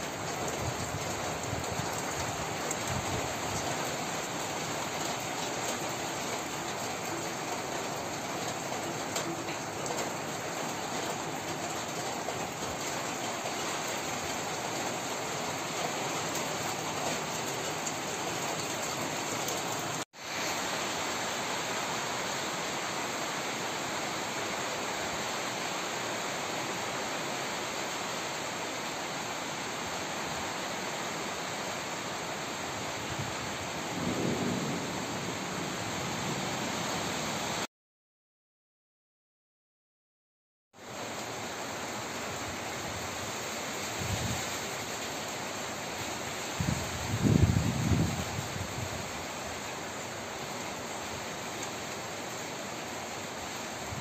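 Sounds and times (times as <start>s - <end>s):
heavy rain: 0.0s - 37.7s, 40.8s - 54.0s
mountain streams rushing: 0.0s - 37.7s, 40.8s - 54.0s.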